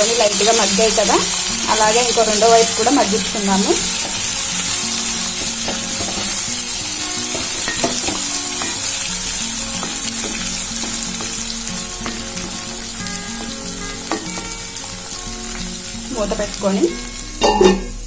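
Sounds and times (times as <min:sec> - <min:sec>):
spatula turning food: 0:00.0 - 0:17.1
vegetables sizzling in oil: 0:00.0 - 0:18.0.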